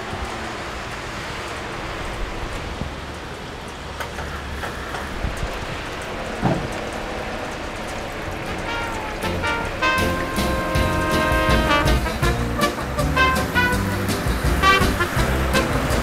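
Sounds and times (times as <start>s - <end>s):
rain on wet pavement: 0.0s - 16.0s.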